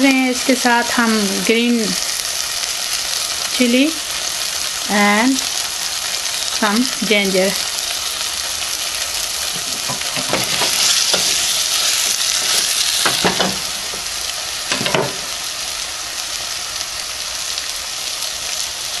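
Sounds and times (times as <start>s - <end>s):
curry sizzling in a pot: 0.0s - 19.0s.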